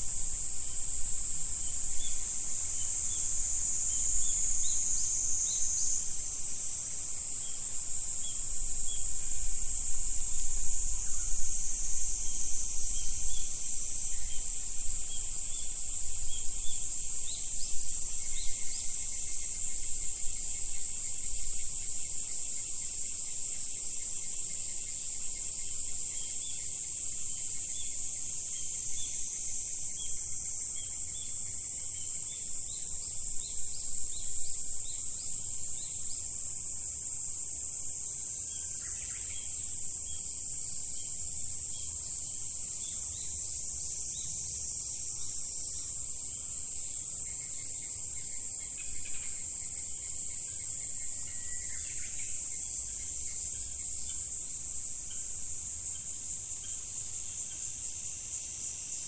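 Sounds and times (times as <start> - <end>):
insect chorus droning: 0.0 - 59.0.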